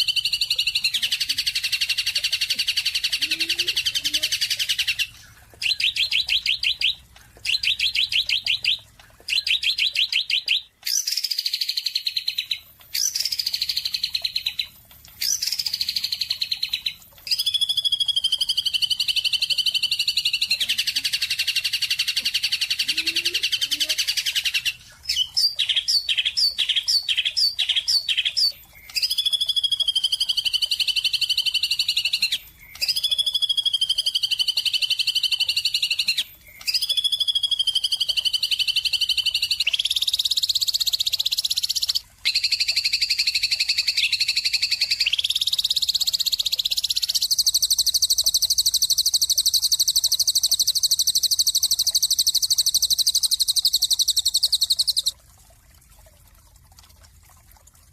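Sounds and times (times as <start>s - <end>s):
songbird chirping and trilling: 0.0s - 55.1s.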